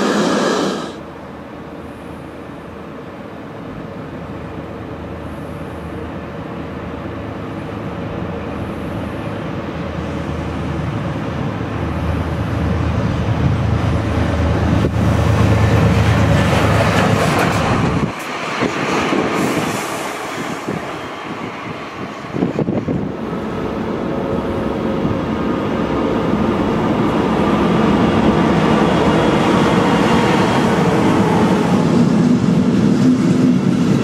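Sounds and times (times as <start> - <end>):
diesel locomotive engine drone: 0.0 - 34.0.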